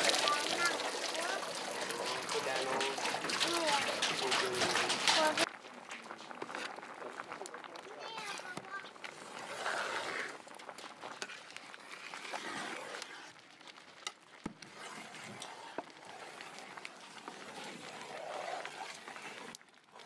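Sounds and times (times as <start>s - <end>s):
juice boiling with bubbling hiss: 0.0s - 20.0s.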